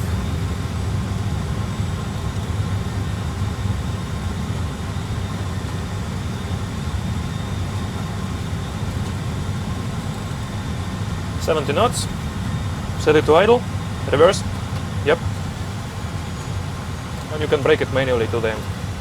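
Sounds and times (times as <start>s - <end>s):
low rumble of aircraft landing: 0.0s - 19.0s.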